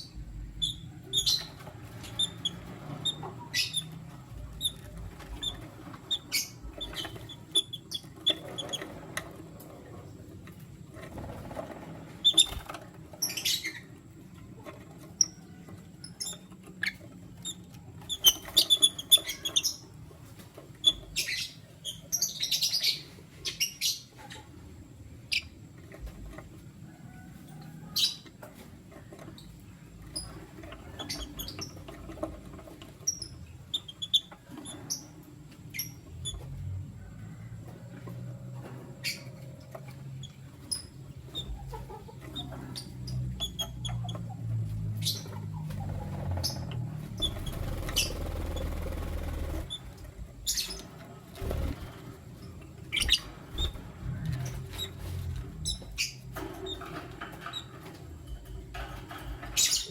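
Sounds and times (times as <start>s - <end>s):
birds chirping: 0.0s - 26.4s, 28.9s - 37.0s, 37.6s - 59.9s.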